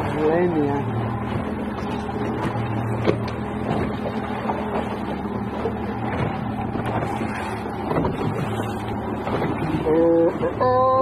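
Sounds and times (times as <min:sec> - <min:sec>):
boat engine running: 0:00.0 - 0:11.0
water noise: 0:00.0 - 0:11.0
wind: 0:00.0 - 0:11.0.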